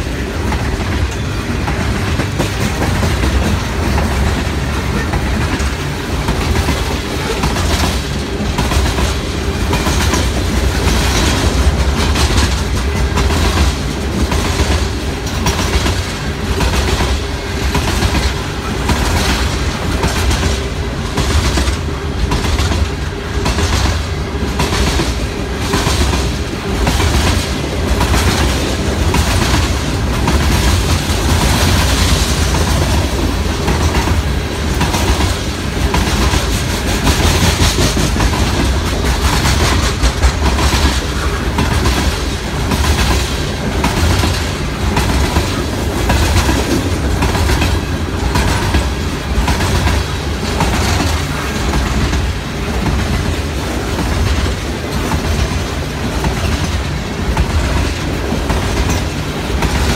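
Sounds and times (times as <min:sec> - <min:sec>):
train cars rumbling past: 0:00.0 - 0:59.9
wheels clacking over rail joints: 0:00.0 - 0:59.9.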